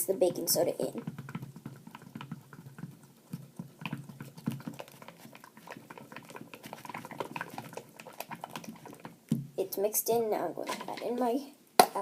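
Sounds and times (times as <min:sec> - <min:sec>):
stick stirring sticky glue: 0:00.0 - 0:09.6.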